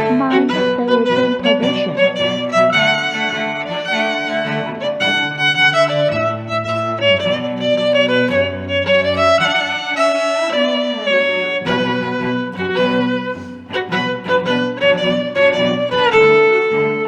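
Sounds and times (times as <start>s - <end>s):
violin melody over bowed strings: 0.0s - 17.0s.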